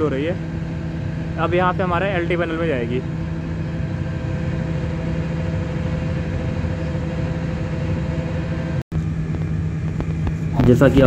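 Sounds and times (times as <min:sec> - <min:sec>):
transformer humming: 0:00.0 - 0:11.0.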